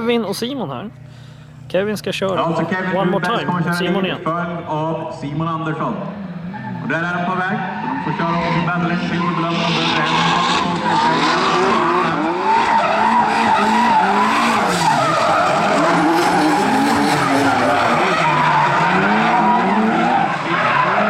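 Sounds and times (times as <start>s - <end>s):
car engines revving: 0.0s - 21.0s
tyres skidding and squealing: 1.7s - 21.0s.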